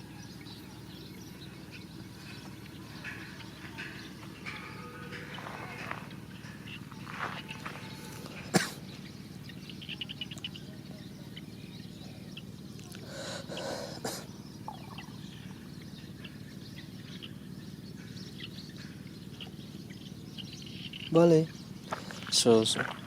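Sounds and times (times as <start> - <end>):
bird chirps: 0.0 - 23.0
steady low hum: 0.0 - 23.0.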